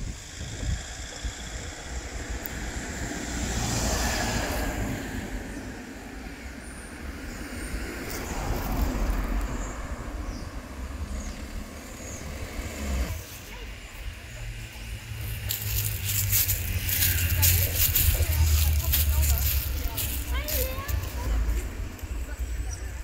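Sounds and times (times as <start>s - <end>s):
cars passing: 0.0s - 23.0s
steady low rumble: 0.0s - 23.0s.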